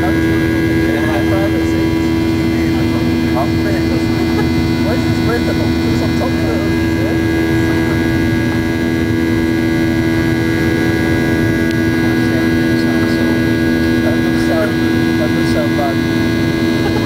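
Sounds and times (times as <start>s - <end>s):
airplane cabin engine drone: 0.0s - 17.0s
high steady whining tones: 0.0s - 17.0s.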